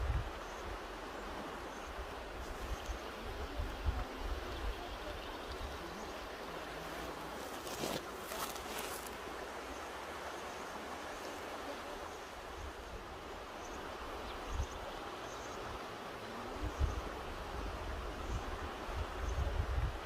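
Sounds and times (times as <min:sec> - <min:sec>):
river rushing over rocks: 0:00.2 - 0:20.0.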